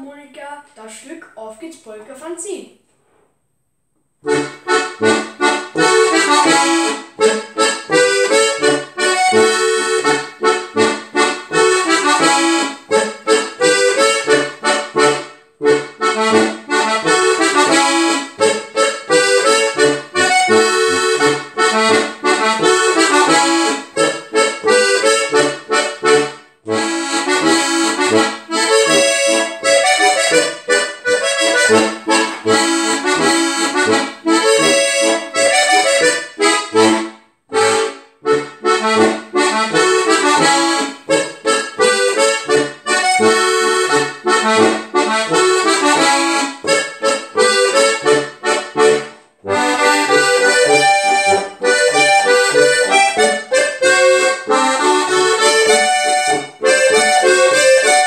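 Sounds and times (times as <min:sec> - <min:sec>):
button accordion playing polka: 0:04.2 - 0:58.0.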